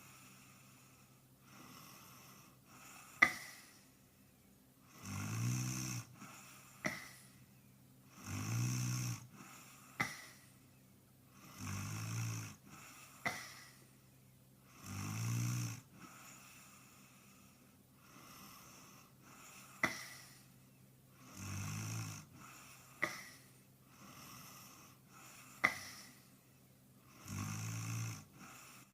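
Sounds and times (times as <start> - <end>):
man snoring: 0.0 - 3.8, 4.8 - 7.4, 8.1 - 10.4, 11.4 - 13.9, 14.7 - 20.5, 21.2 - 26.3, 27.0 - 28.9.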